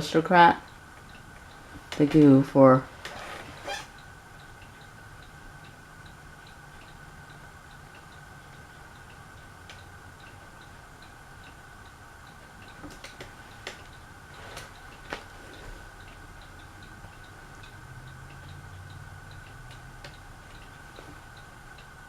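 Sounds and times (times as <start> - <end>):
light regular ticking: 0.0 - 22.0
steady hum: 0.0 - 22.0.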